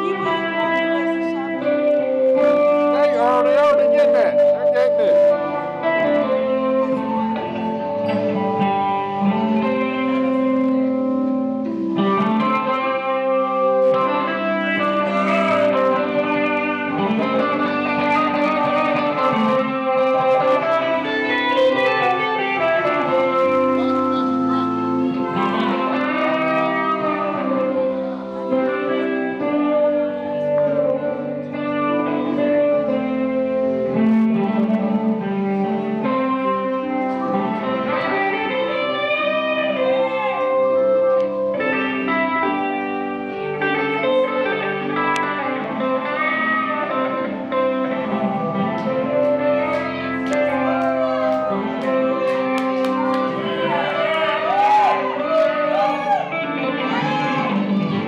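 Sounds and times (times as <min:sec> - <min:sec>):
guitar music with bending notes: 0:00.0 - 0:58.0.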